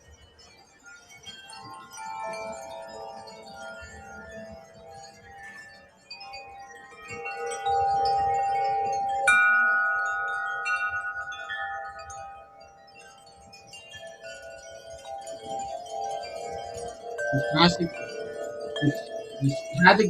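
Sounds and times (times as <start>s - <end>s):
wind chimes ringing: 0.0s - 20.0s.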